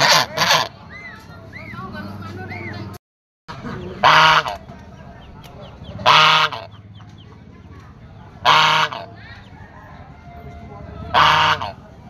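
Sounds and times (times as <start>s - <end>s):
geese honking: 0.0s - 1.9s, 3.5s - 7.5s, 8.1s - 12.0s.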